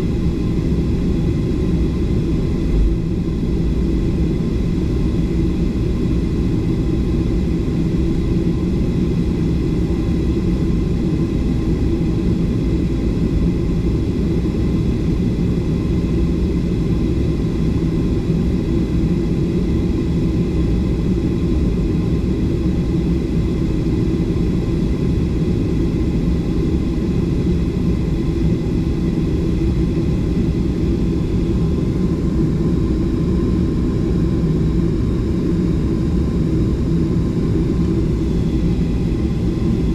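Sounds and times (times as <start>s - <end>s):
airliner cabin engine rumble: 0.0s - 39.9s
faint steady whining tones: 0.0s - 39.9s.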